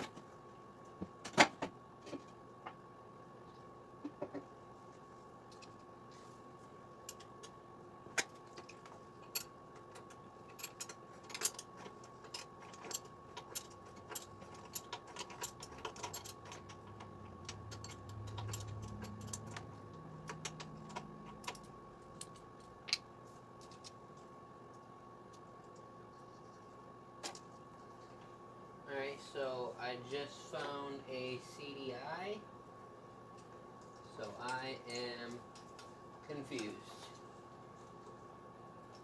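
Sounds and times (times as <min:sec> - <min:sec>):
faint steady high hum: 0:00.0 - 0:39.0.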